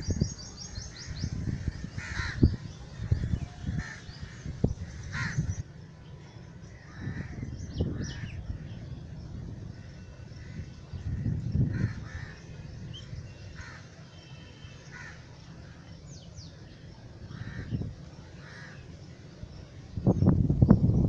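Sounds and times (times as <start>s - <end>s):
birds calling: 0.0s - 5.6s, 6.7s - 21.0s.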